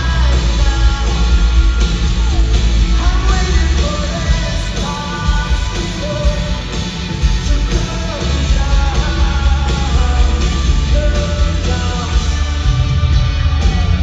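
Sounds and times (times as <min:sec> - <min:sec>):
guitar: 0:00.0 - 0:14.0
heavy bass and drums: 0:00.0 - 0:14.0
rock band playing live: 0:00.0 - 0:14.0.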